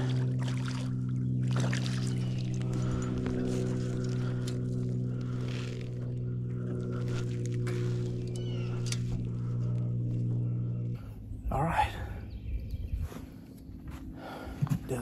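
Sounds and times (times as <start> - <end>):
electric trolling motor humming: 0.0 - 14.8.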